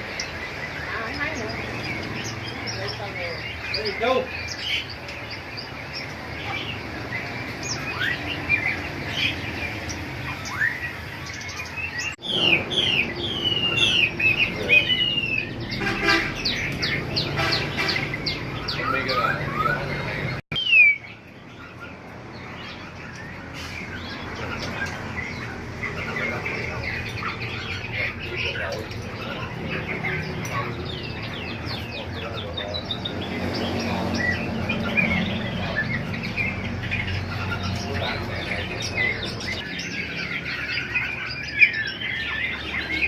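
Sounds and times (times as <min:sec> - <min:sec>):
caged songbirds chirping and whistling: 0:00.0 - 0:43.0.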